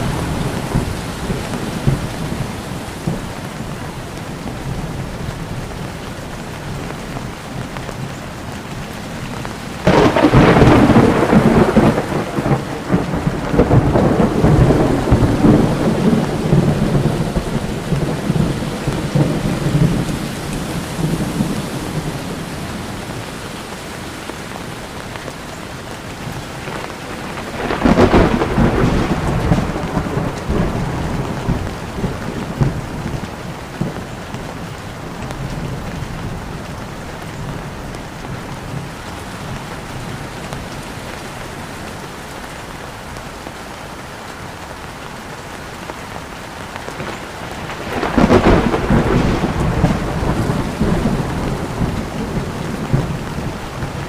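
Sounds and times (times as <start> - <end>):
thunder rumbling: 0.0 - 8.6, 9.2 - 41.8, 46.2 - 54.0
heavy rain falling: 0.0 - 54.0.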